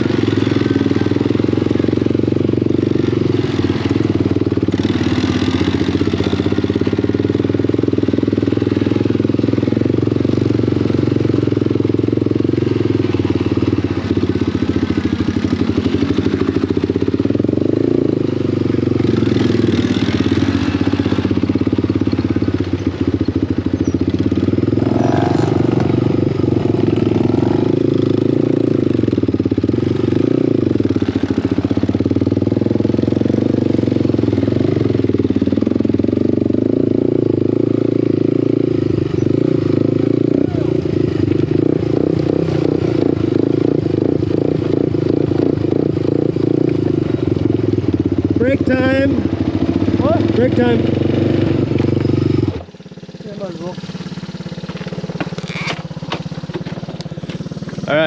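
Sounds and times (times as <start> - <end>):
small vehicle engine running: 0.0 - 58.0.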